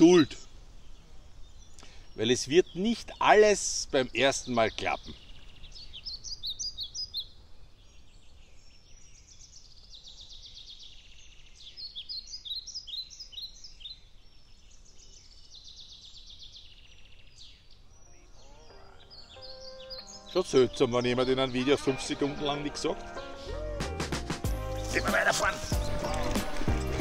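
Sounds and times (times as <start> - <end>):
faint low background noise: 0.0 - 24.4
songbirds singing: 0.0 - 27.0.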